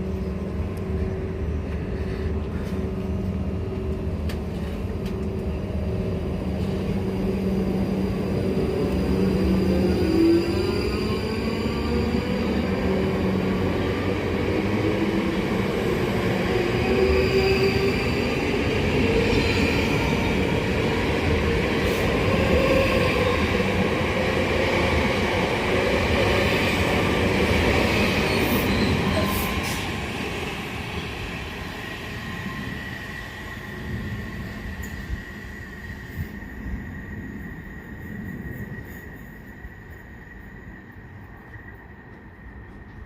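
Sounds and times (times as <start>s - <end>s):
train wheels on rails: 0.0s - 43.0s.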